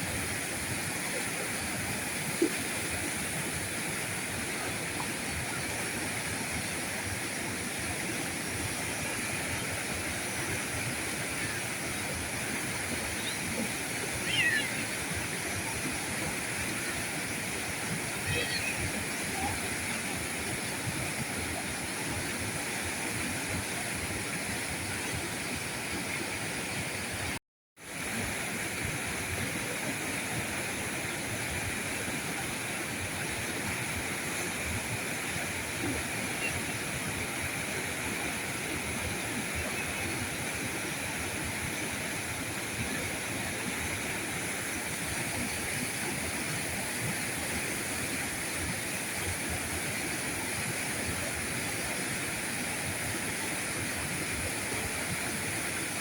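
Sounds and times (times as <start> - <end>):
river rushing and gurgling: 0.0 - 56.0.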